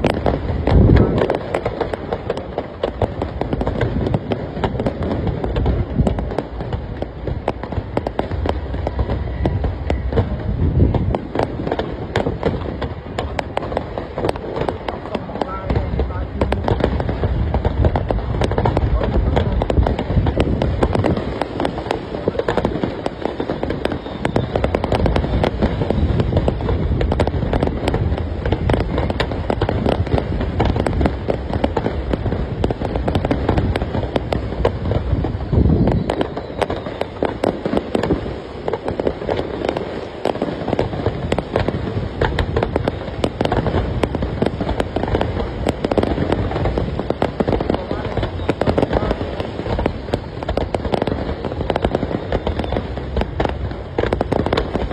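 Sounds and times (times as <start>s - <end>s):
fireworks booming bursts: 0.0s - 54.9s
fireworks crackling: 0.0s - 54.9s.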